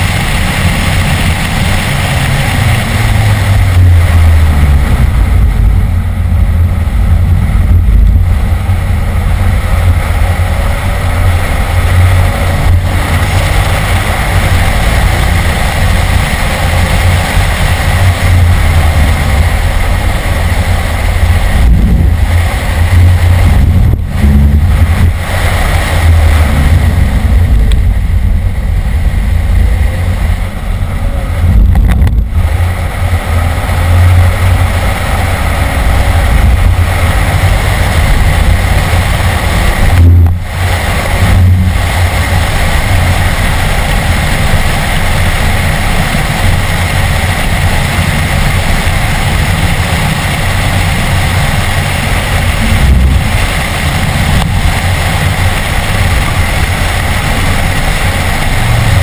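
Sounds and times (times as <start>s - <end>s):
car engine running hard: 0.0s - 59.0s
road and wind noise: 0.0s - 59.0s.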